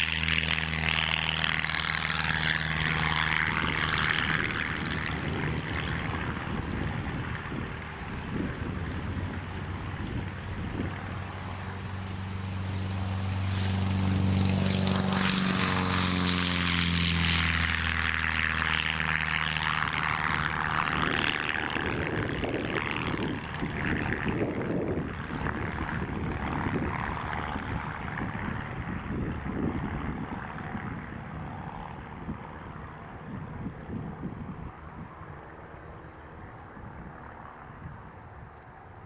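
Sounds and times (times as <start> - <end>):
propeller airplane passing low: 0.0 - 39.0.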